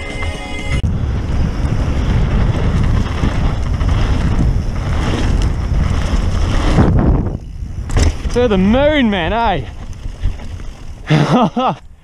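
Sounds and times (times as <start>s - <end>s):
wind rushing over microphone: 0.8s - 11.2s
tyres rumbling over dirt: 0.8s - 12.0s
bike jolt: 0.9s - 12.0s.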